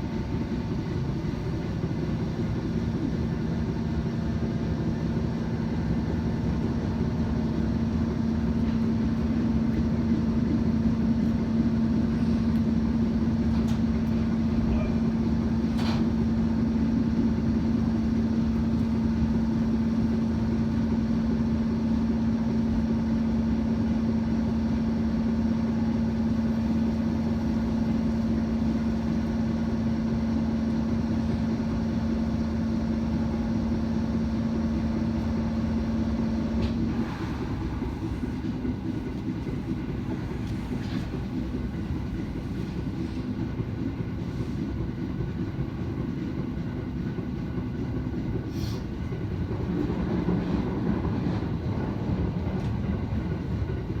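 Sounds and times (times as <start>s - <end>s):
train running slowly: 0.0s - 54.0s.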